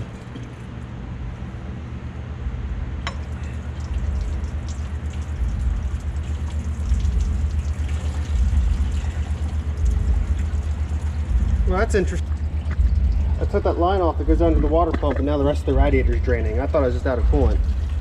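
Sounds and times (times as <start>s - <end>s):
coolant pouring into pan: 3.2s - 18.0s.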